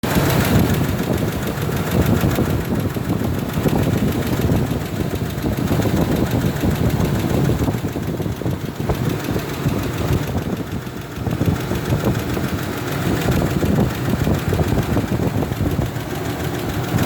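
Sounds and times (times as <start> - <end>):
car engine idling: 0.0 - 17.0
fast even engine ticking: 0.0 - 17.0.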